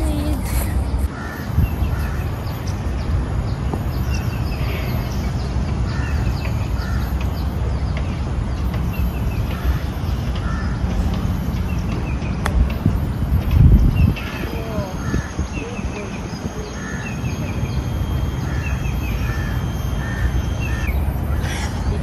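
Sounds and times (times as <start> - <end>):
birds calling: 0.0 - 22.0
high chirps: 0.0 - 22.0
steady low rumble: 0.0 - 22.0.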